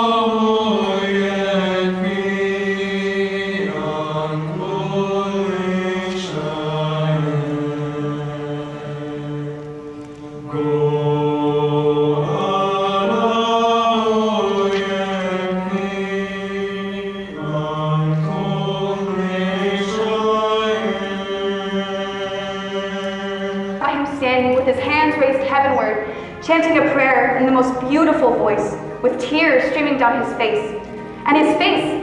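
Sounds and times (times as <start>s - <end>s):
youth choir singing: 0.0s - 9.7s, 10.3s - 27.6s.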